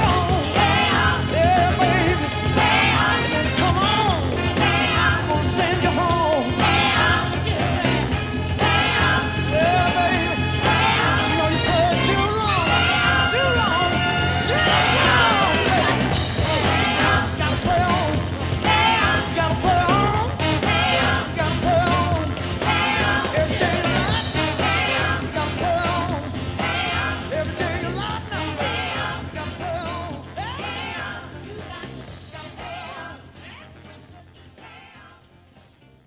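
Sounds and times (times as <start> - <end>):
blues-rock band playing: 0.0 - 34.6.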